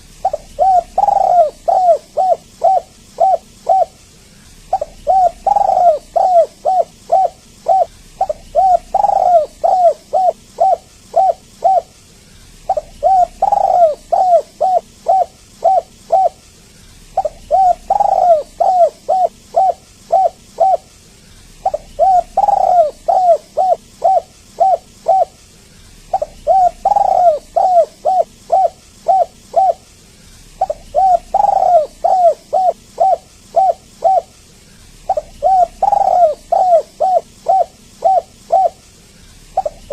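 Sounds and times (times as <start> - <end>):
dove cooing: 0.0 - 25.4, 26.0 - 29.9, 30.5 - 39.9.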